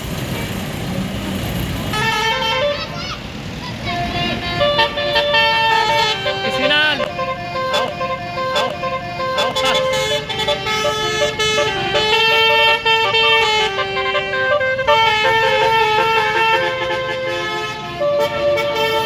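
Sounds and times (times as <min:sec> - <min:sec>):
melodic bus horn: 0:01.9 - 0:19.0.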